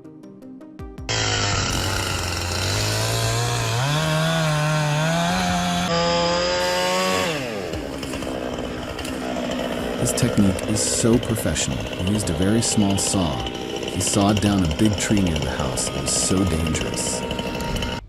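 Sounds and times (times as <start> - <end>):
chainsaw cutting wood: 1.1 - 18.0.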